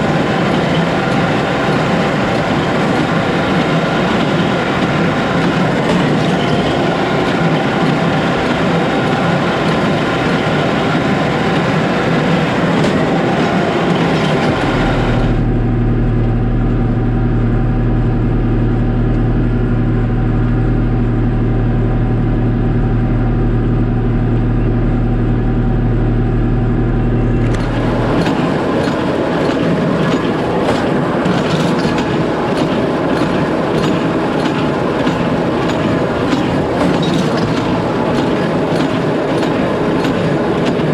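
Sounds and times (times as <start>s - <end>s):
baler rhythmic mechanical clatter: 0.0s - 19.4s, 26.6s - 40.9s
tractor engine hum: 0.0s - 40.9s.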